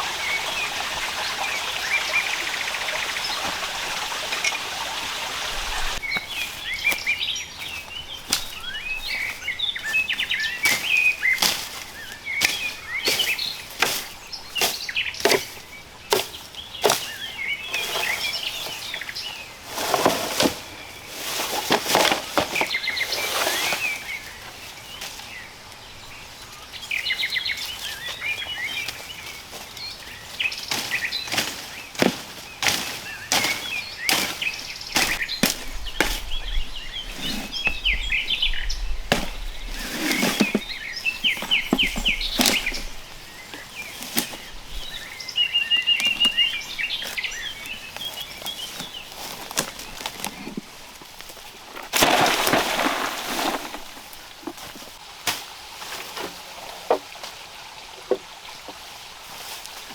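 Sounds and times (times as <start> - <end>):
birds chirping: 0.0 - 55.0
rustling: 2.8 - 25.4, 27.0 - 57.0.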